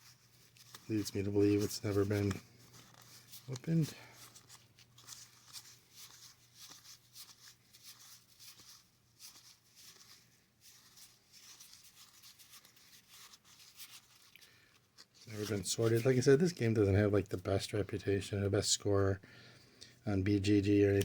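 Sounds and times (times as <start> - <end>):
cards being handled: 0.0 - 17.4, 20.5 - 21.0.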